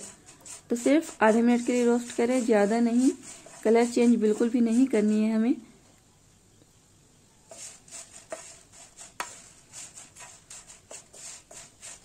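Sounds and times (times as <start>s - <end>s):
spatula stirring dried chillies in pan: 0.0s - 5.3s, 7.5s - 12.0s.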